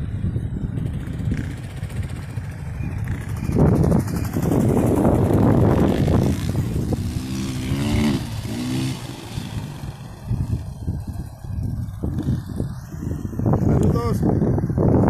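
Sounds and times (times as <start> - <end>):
motorcycle engine revving: 0.0 - 14.8
motorcycle engines running: 0.0 - 15.0
loud rough rush: 0.5 - 15.0.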